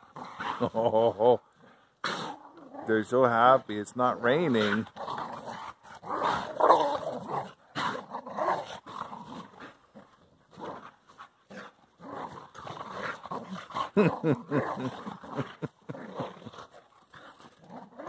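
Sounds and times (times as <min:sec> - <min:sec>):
dogs growling: 0:00.0 - 0:18.0.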